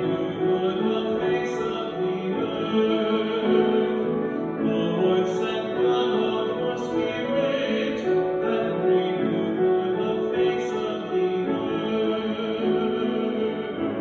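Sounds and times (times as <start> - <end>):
piano accompaniment: 0.0 - 14.0.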